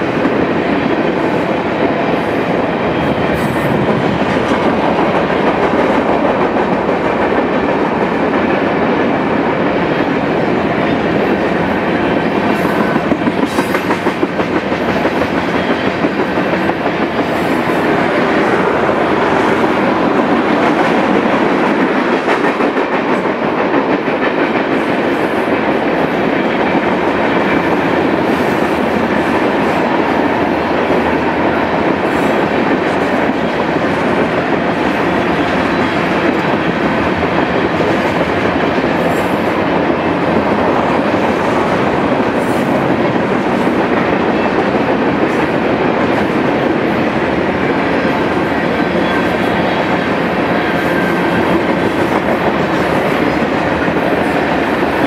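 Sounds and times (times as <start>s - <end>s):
clicks of rolling train cars: 0.0s - 55.0s
freight train wheels on rail: 0.0s - 55.0s.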